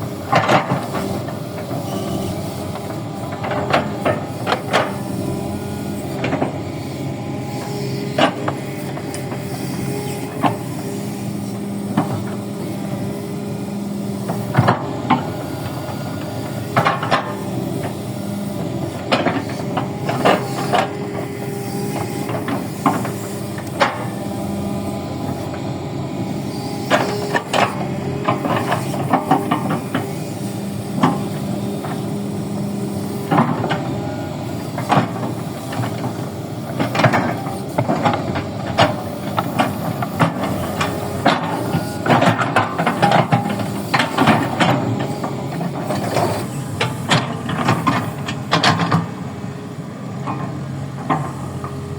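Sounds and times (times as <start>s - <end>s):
excavator motor running: 0.0s - 51.9s.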